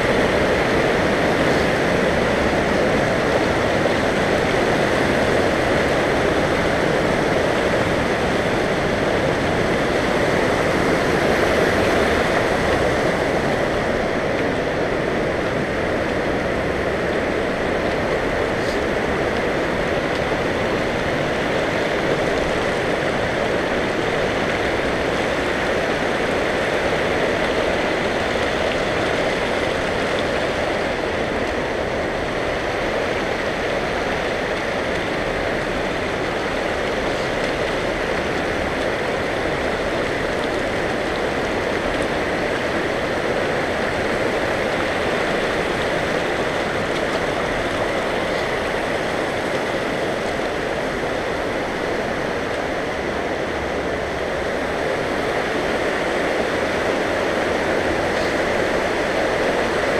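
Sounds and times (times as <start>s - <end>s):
creek running over rocks: 0.0s - 59.9s.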